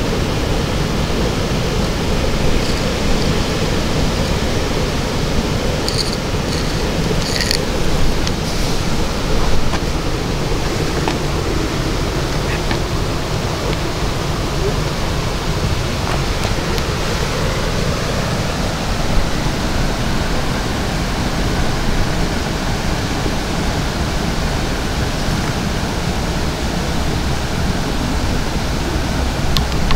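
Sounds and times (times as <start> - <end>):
wind blowing across microphone: 0.0 - 29.9.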